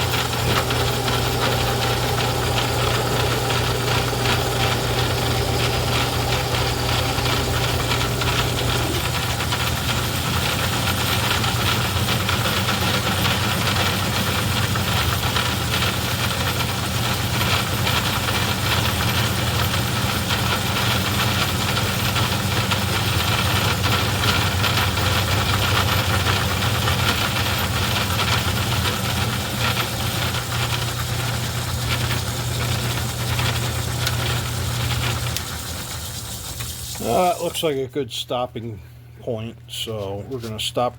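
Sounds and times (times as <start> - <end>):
lathe motor humming: 0.0 - 37.7
rough mechanical noise: 0.0 - 37.8.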